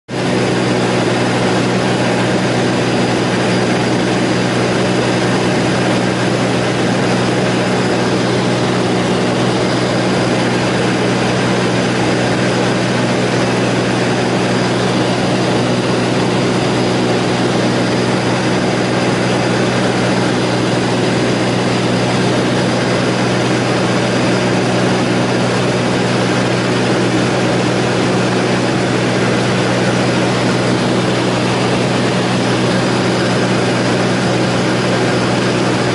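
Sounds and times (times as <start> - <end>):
aircraft engines droning: 0.1 - 35.9.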